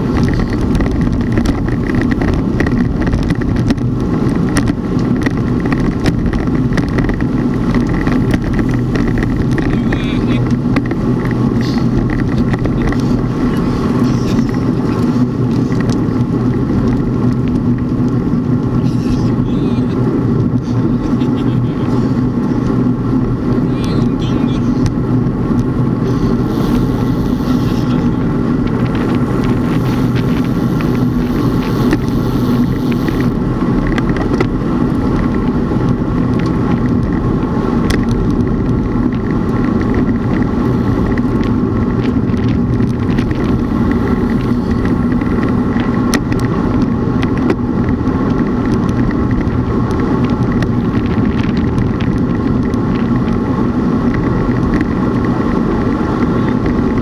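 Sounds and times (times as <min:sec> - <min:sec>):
road and wind rumble: 0:00.0 - 0:57.0
vehicle driving on road: 0:00.0 - 0:57.0.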